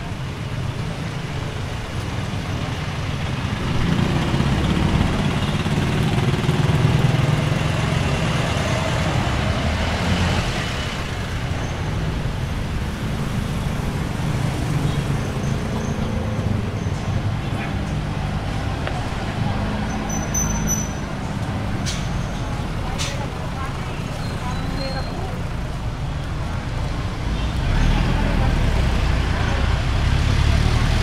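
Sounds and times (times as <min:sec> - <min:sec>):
street traffic: 0:00.0 - 0:31.0.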